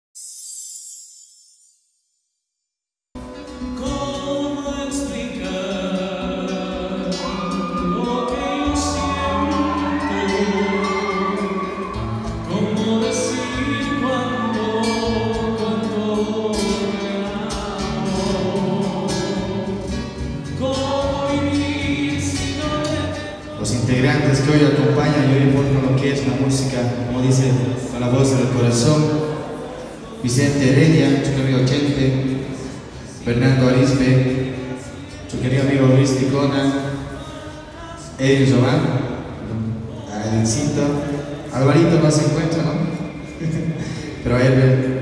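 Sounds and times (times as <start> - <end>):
acoustic guitar: 3.2 - 45.0
man singing into a microphone: 3.6 - 45.0.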